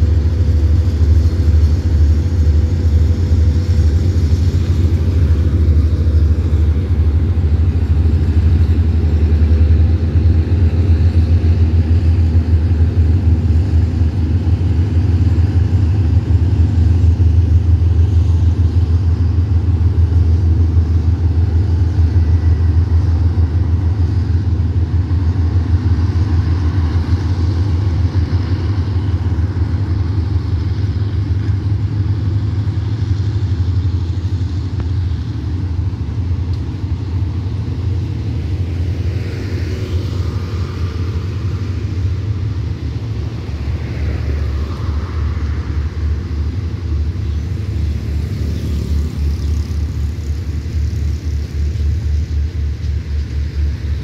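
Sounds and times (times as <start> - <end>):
train rolling past: 0.0 - 54.0.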